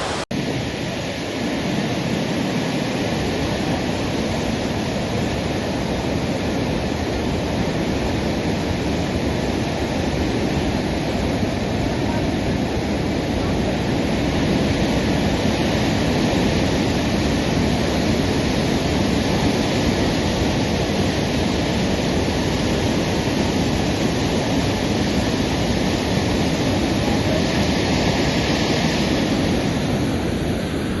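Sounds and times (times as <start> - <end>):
rushing water: 0.0 - 31.0.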